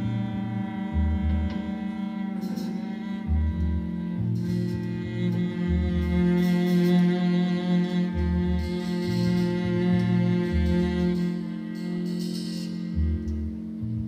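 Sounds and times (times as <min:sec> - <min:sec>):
low bass notes: 0:00.0 - 0:14.0.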